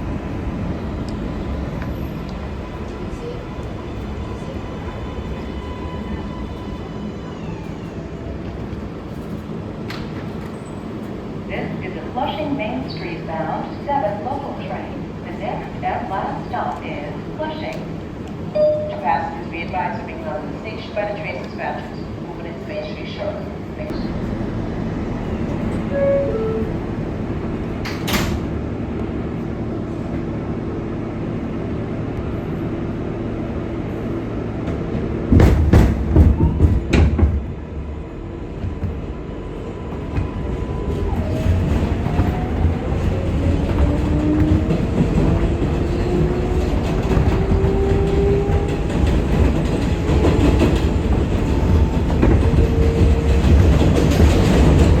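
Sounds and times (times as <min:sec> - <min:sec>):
subway train rumbling: 0:00.0 - 0:55.0.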